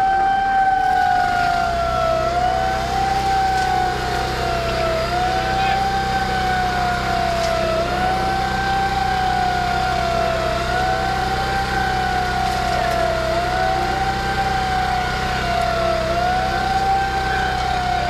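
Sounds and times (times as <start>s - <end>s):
low engine hum: 0.0s - 18.0s
siren wailing: 0.0s - 18.0s.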